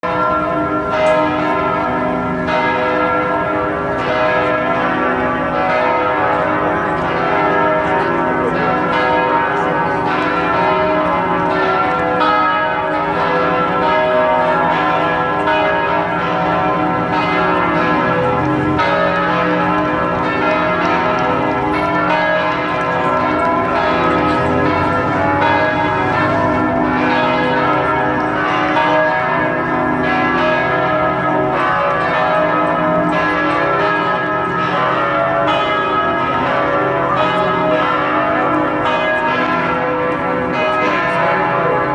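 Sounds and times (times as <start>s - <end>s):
church bells pealing: 0.0s - 41.9s.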